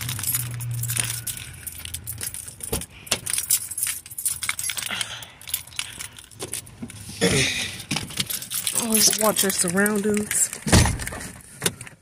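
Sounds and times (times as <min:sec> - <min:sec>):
keys jangling: 0:00.0 - 0:11.9.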